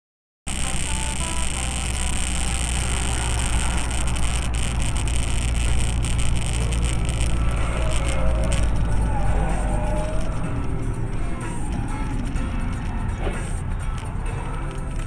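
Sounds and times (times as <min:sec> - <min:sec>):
car engine and road noise: 0:00.5 - 0:15.0.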